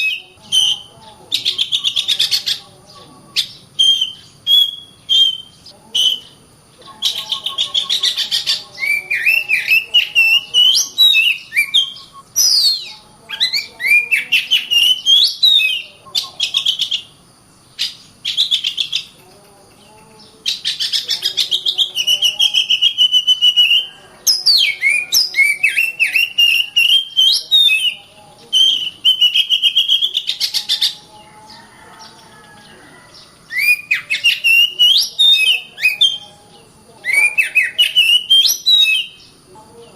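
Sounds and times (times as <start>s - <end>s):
bird singing chattering whistles: 0.0s - 2.6s, 3.3s - 19.2s, 20.2s - 31.1s, 33.4s - 39.4s.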